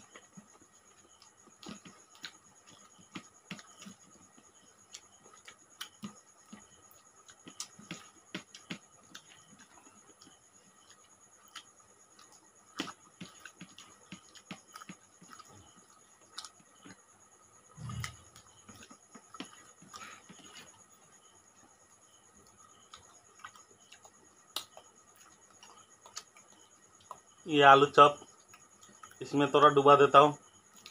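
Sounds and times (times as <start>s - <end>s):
mouths chewing: 0.0s - 27.4s, 28.0s - 29.3s, 30.6s - 30.9s.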